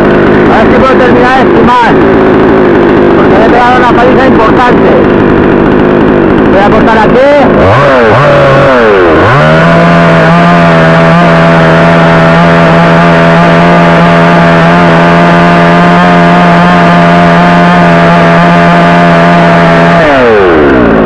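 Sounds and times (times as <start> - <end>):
chainsaw cutting at full throttle: 0.0 - 21.0.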